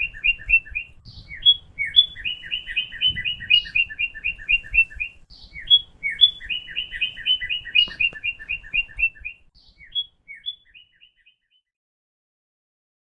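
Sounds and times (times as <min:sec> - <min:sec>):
bird chirping: 0:00.0 - 0:11.7.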